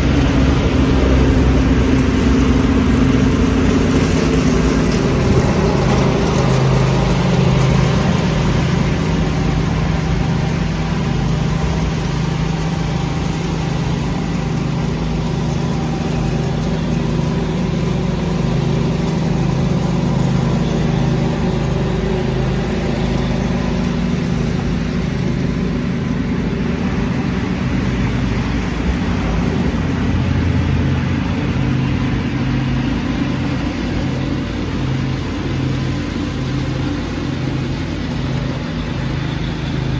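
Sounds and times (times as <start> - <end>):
lawn tractor engine running: 0.0 - 39.9
leaf vacuum whoosh: 0.0 - 39.9.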